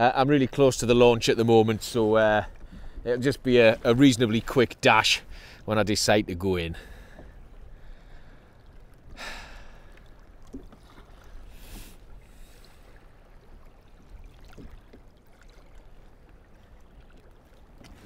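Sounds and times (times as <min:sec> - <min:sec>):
water and wind rumble: 0:00.0 - 0:18.0.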